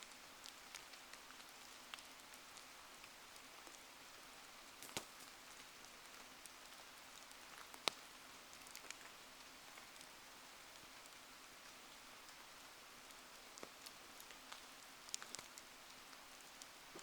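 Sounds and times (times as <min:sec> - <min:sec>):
faint rain hiss: 0:00.0 - 0:17.0
campfire ticks and pops: 0:00.1 - 0:10.1, 0:10.7 - 0:17.0.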